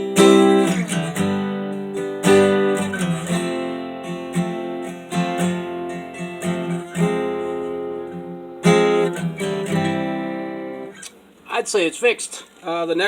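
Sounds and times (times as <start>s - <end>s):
acoustic guitar chords: 0.0s - 11.4s.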